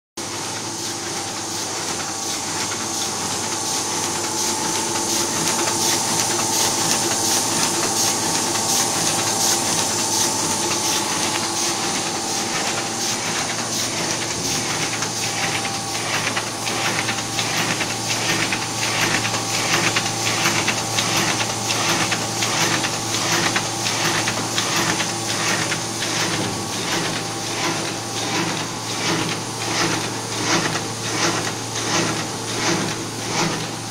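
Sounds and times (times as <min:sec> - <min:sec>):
die-cutting machine clacking: 0:00.2 - 0:33.9
machine humming and hissing: 0:00.2 - 0:33.9.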